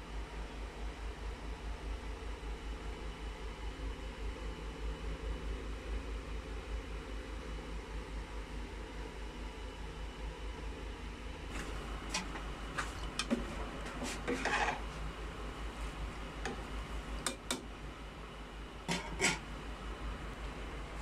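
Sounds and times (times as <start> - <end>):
electrical hum and hiss: 0.0 - 21.0.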